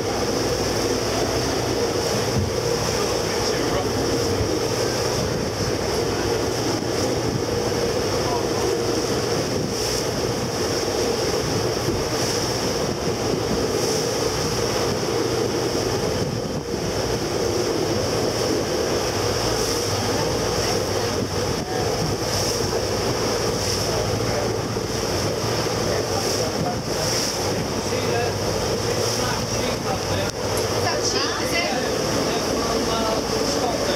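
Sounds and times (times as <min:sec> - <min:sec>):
motor boat engine: 0:00.0 - 0:33.9
water rushing: 0:00.0 - 0:33.9
wind buffeting microphone: 0:00.0 - 0:33.9.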